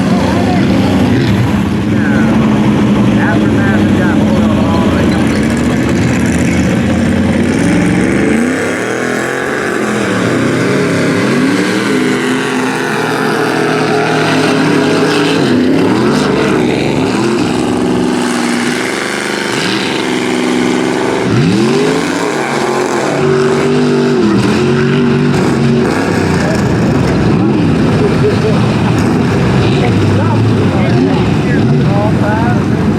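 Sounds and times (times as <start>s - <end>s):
engine revving up and down: 0.0s - 32.9s.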